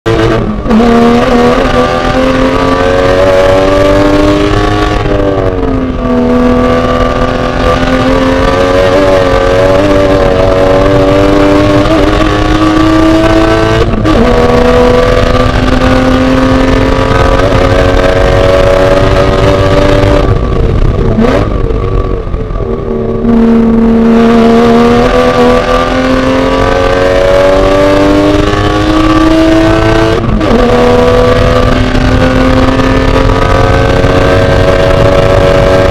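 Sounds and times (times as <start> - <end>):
race car engine accelerating: 0.1 - 35.9.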